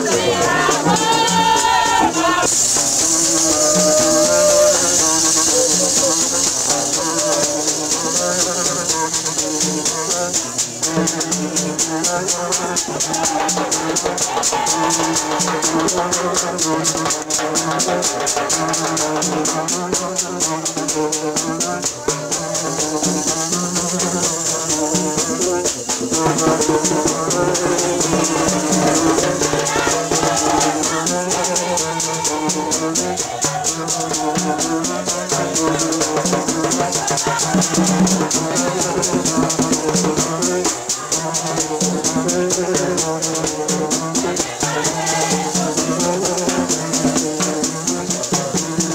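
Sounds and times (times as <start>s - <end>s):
drums: 0.0s - 48.9s
metal horns blowing riffs: 0.0s - 48.9s
shaker rattle: 0.0s - 48.9s.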